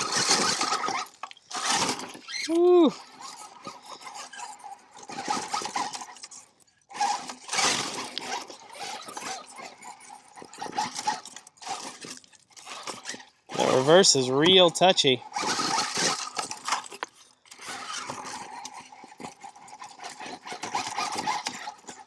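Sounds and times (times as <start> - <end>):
rc car electric motor whining: 0.0 - 14.6, 15.2 - 22.0.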